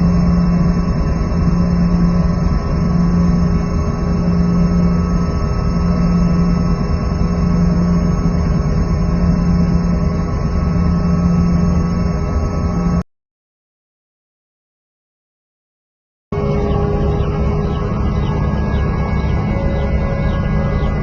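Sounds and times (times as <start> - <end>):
engine drone with low hum: 0.0 - 13.0, 16.3 - 21.0.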